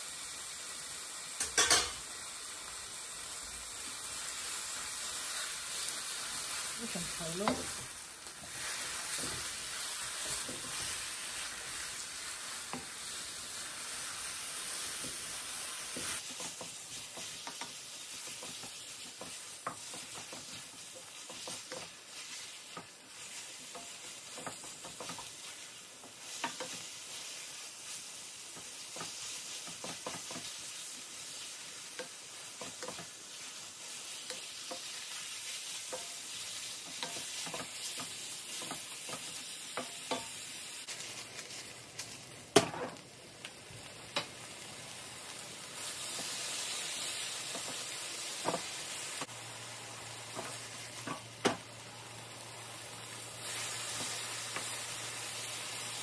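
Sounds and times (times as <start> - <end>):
meat sizzling in a wok: 0.0 - 56.0.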